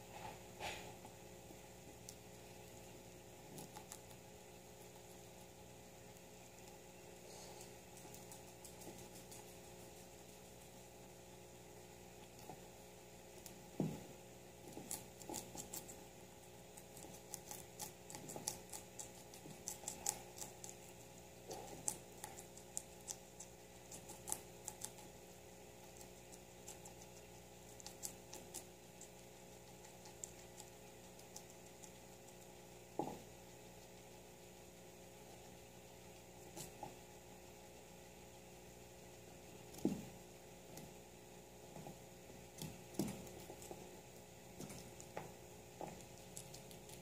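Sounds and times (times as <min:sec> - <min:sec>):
guinea pig chewing greens: 0:00.0 - 0:47.0.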